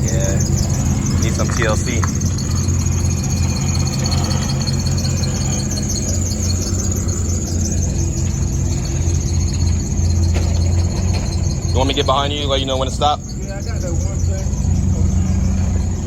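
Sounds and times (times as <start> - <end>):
car engine idling: 0.0 - 16.0
high-pitched belt squeal: 0.0 - 16.0.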